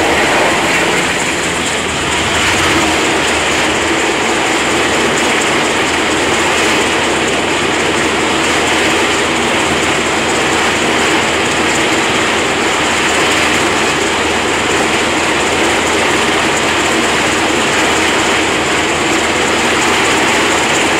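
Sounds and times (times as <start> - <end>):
helicopter engines and rotor: 0.0 - 20.9.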